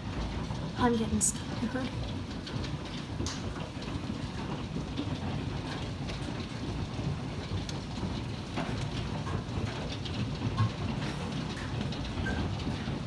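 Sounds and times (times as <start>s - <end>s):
hailstones striking: 0.0s - 13.0s
heavy rain: 0.0s - 13.0s.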